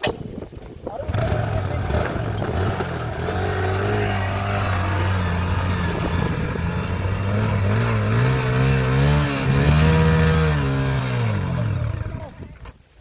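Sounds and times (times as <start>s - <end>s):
vehicle engine revving: 1.1s - 12.7s.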